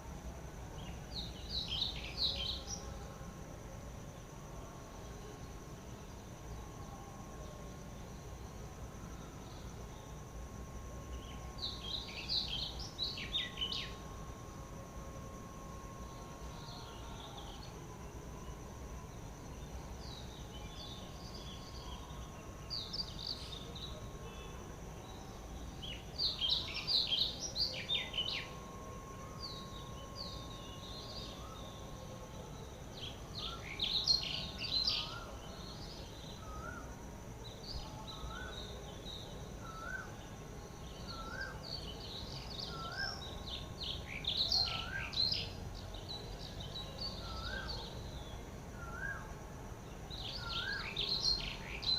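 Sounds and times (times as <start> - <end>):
faint background noise: 0.0 - 51.9
steady high-pitched hum: 0.0 - 51.9.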